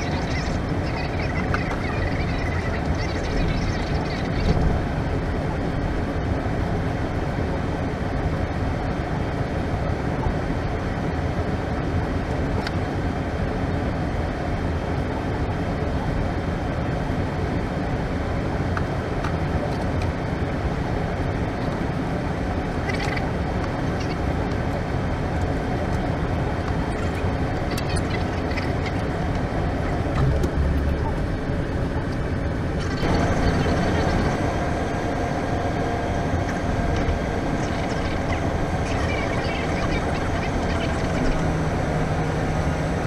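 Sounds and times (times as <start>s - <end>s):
cockpit low rumble and hiss: 0.0s - 43.0s.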